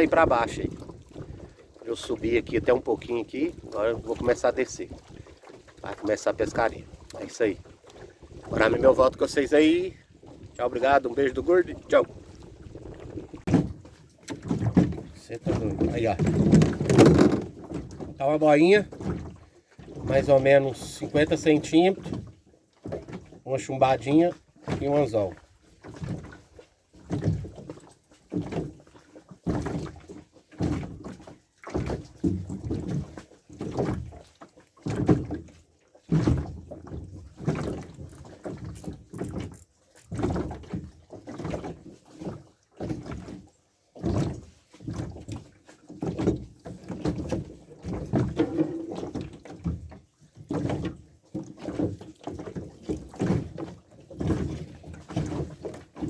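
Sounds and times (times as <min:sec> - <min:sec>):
water slapping against boat hull: 0:00.0 - 0:56.0.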